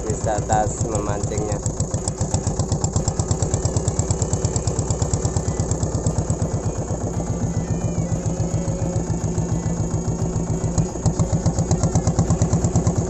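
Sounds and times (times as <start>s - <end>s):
boat engine put-put: 0.0s - 13.0s.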